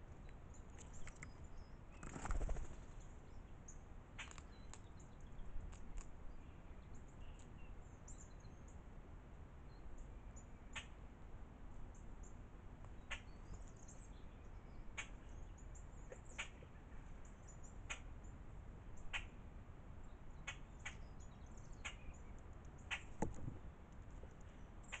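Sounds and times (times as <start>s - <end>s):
faint high bird chirping: 0.0s - 8.8s, 11.8s - 19.4s, 20.0s - 25.0s.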